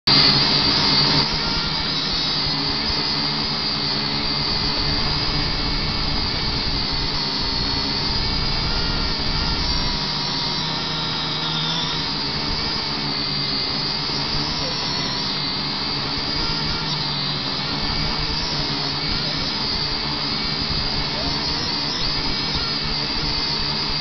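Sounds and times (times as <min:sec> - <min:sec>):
drone propellers whining: 0:00.1 - 0:24.0.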